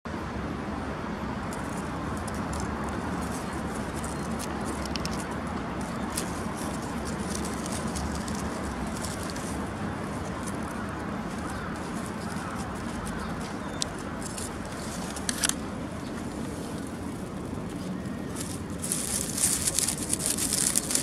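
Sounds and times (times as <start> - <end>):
distant road traffic rumble: 0.1 - 21.0.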